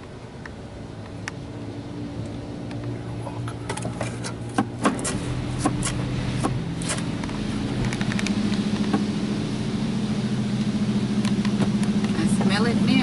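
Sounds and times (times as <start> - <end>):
car wash machinery humming: 0.0 - 13.0.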